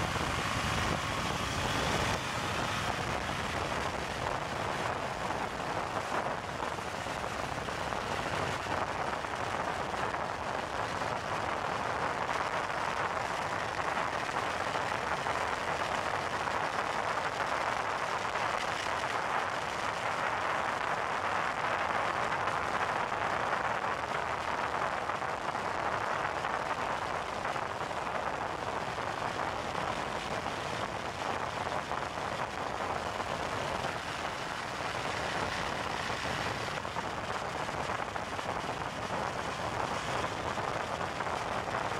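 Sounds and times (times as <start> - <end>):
wind and road noise: 0.0 - 41.9.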